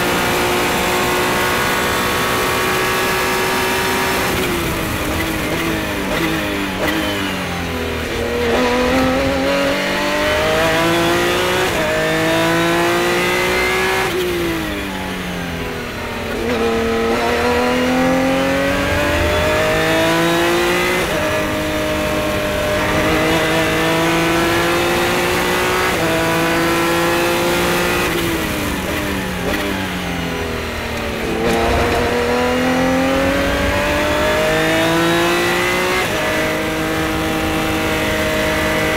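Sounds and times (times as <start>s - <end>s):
race car engine revving: 0.0s - 15.4s, 16.1s - 38.9s.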